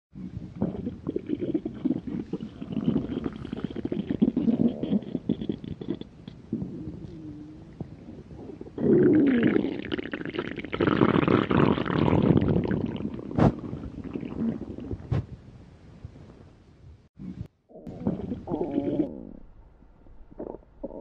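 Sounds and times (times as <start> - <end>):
stomach rumbling and gurgling: 0.2 - 16.5, 17.2 - 21.0.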